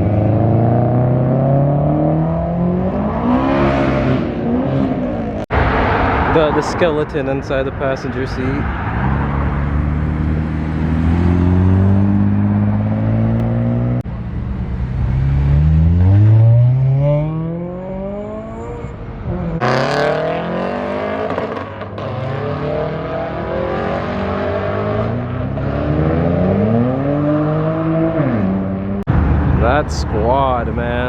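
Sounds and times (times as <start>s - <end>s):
cars accelerating: 0.0s - 31.0s.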